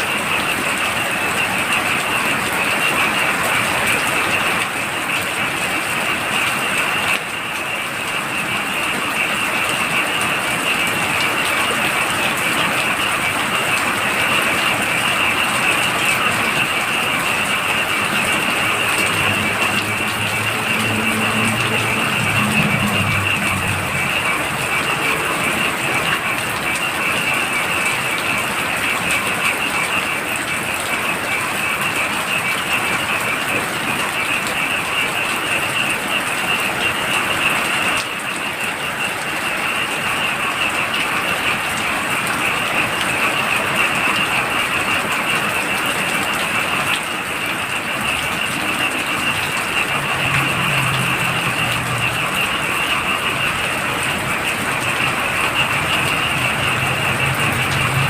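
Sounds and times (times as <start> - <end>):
frogs trilling: 0.0 - 58.0
heavy rain pouring: 0.0 - 58.0.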